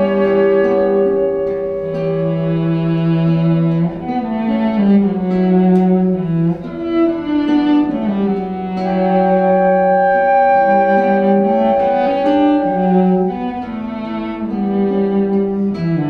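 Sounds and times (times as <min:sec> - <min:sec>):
bowed string instrument melody: 0:00.0 - 0:16.0.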